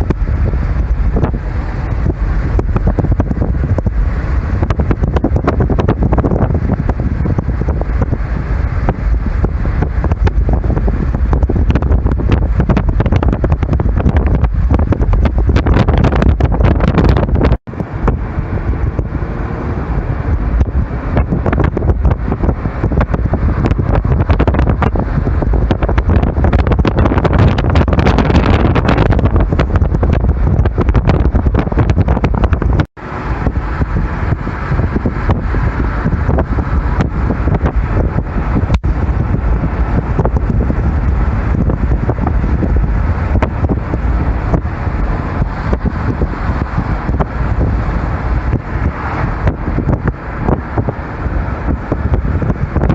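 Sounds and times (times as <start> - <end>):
car running noise: 0.0 - 52.9
wind buffeting microphone: 0.0 - 52.9.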